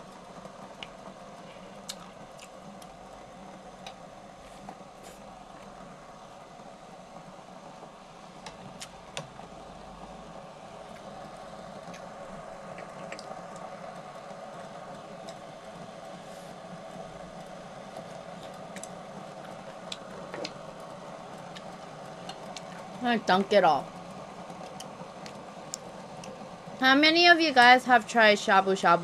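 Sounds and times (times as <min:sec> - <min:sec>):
cooker steady hum: 0:00.0 - 0:29.0.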